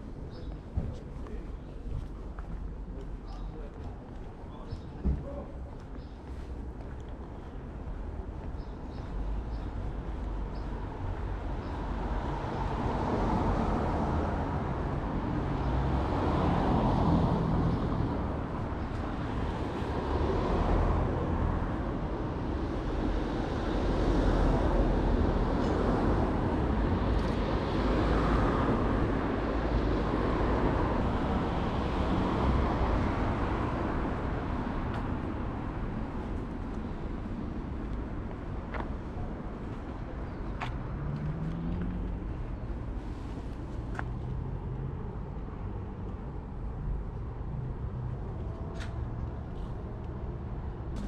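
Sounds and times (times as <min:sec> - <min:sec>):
road noise hum: 0:00.0 - 0:51.0
cars passing: 0:06.0 - 0:51.0.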